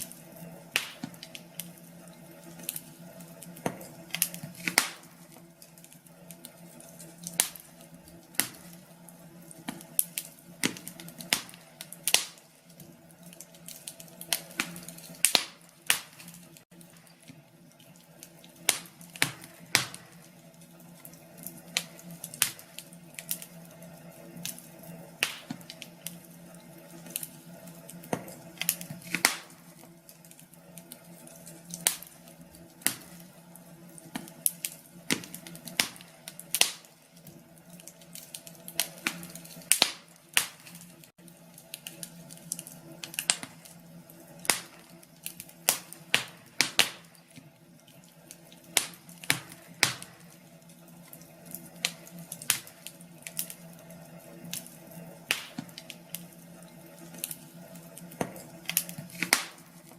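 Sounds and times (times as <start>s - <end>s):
fire pops and snaps: 0.0s - 59.9s
wood fire crackling: 0.0s - 59.9s.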